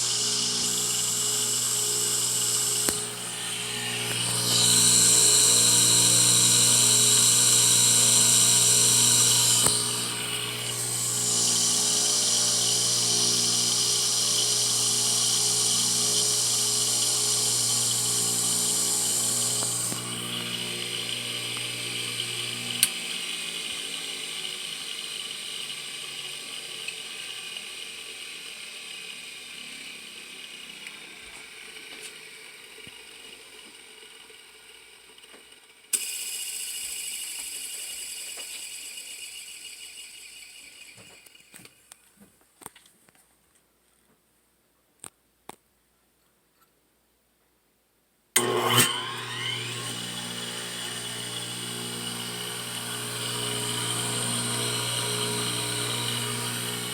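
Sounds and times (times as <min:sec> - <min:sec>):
motor high-pitched whine: 0:00.0 - 0:41.9, 0:48.4 - 0:56.9
lathe coasting down: 0:00.0 - 0:42.0, 0:48.4 - 0:56.9.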